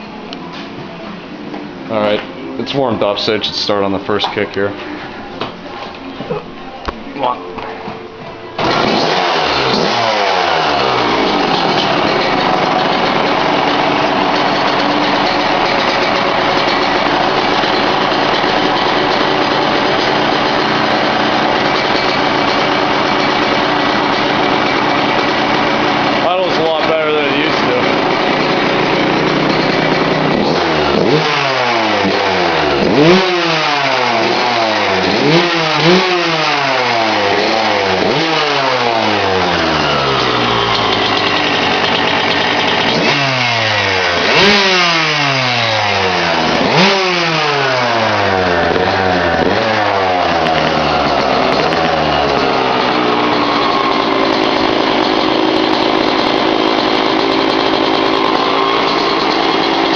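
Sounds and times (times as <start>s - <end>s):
two-stroke motorcycle engine revving: 8.6s - 59.9s.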